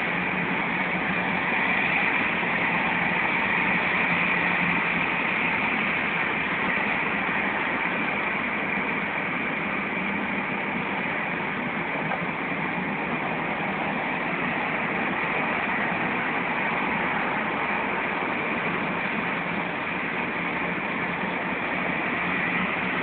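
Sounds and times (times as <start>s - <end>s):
car road noise from cabin: 0.0s - 23.0s.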